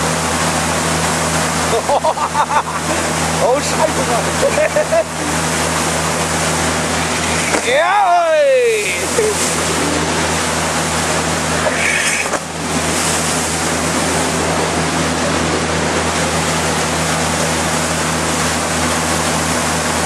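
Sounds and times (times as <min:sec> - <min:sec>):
jet ski passing: 0:00.0 - 0:20.0
motorboat engine droning: 0:00.0 - 0:20.0
water rushing and splashing: 0:00.0 - 0:20.0.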